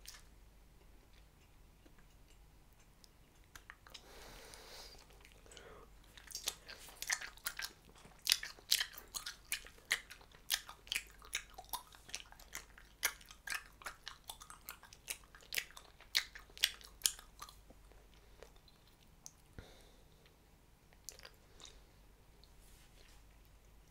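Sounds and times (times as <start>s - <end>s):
gum chewing clicks: 0.0s - 19.6s.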